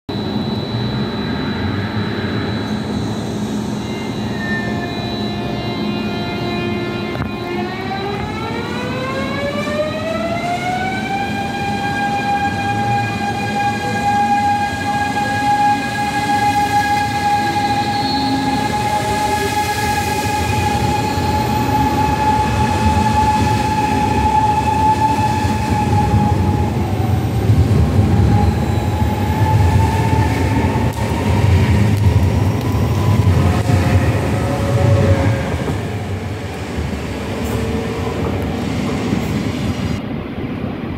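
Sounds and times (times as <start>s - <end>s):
electric train traction whine: 0.1s - 40.6s
train wheel rumble: 1.7s - 40.9s.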